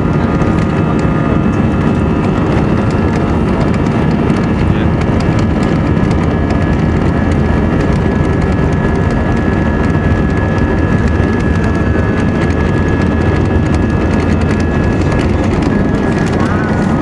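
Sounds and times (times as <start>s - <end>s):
jet engines high whine: 0.0s - 17.0s
wheels rumbling on runway: 0.0s - 17.0s.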